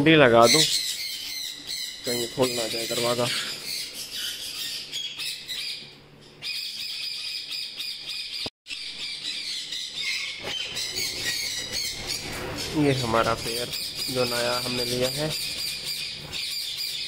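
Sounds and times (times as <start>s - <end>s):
parrots squawking and screeching: 0.4s - 17.0s.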